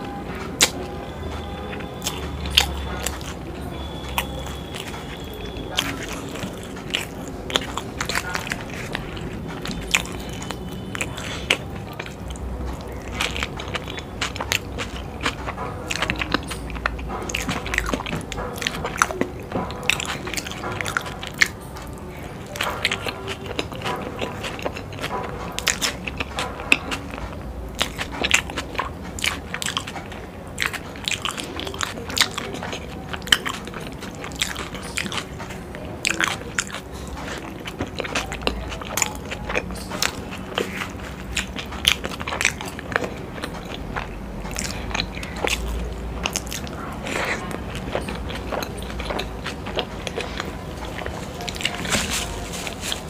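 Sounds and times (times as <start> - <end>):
person chewing crunchy food: 0.0 - 53.0
wet mouth clicks: 2.0 - 52.0.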